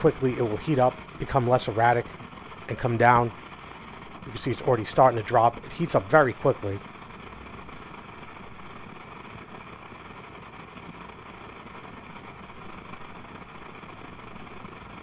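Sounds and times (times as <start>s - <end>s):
camp stove burner rushing: 0.0s - 15.0s.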